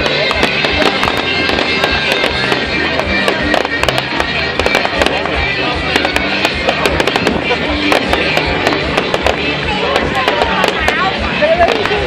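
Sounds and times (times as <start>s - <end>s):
fireworks cracking and banging: 0.0s - 12.0s
loud music from sound system: 0.0s - 12.0s.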